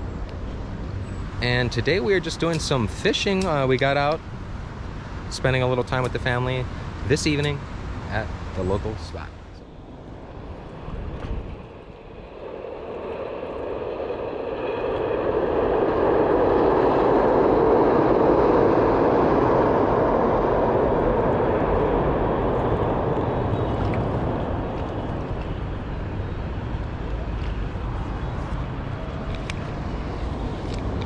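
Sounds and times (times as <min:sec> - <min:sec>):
passing vehicle rumble: 0:00.0 - 0:31.0.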